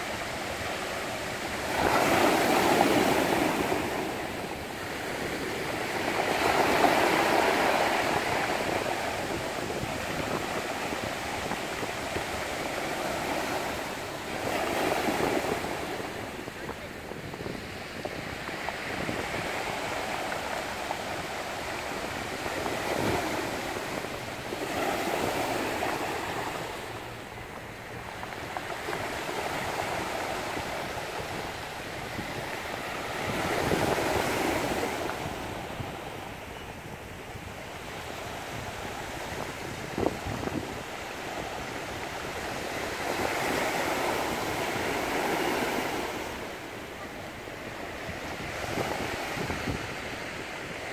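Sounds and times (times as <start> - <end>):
small waves washing ashore: 0.0 - 50.9
wind on microphone: 0.0 - 50.9.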